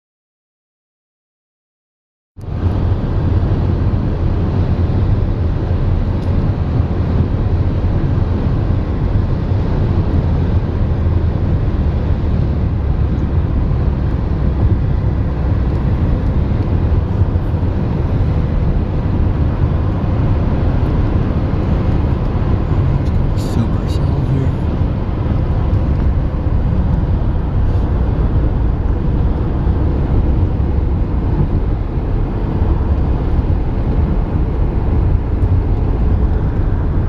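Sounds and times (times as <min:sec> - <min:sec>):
car interior road rumble: 0:02.4 - 0:37.0.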